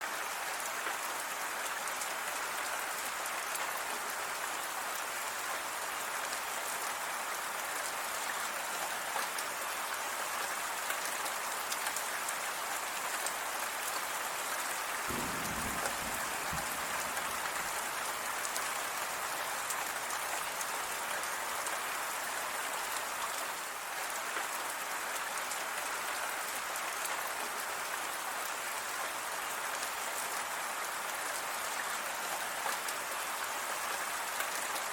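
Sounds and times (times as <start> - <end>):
raindrops ticking on surfaces: 0.0 - 34.9
steady rain falling: 0.0 - 34.9.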